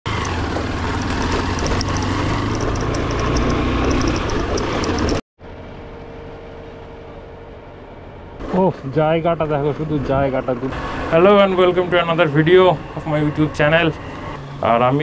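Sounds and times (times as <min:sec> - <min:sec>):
vehicle engine rumbling: 0:00.1 - 0:15.0.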